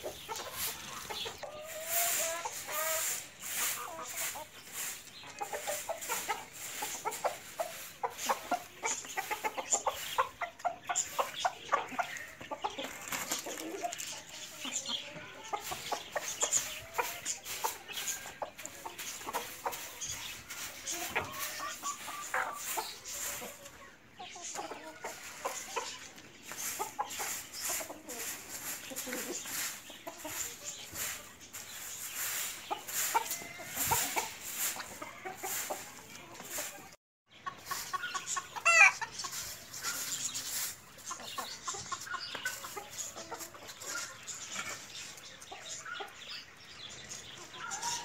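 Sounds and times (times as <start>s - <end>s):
chickens clucking and calling: 0.0s - 48.0s.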